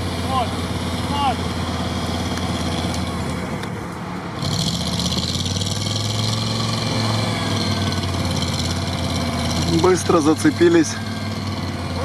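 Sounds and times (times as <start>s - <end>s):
off-road vehicle engines running: 0.0s - 12.0s.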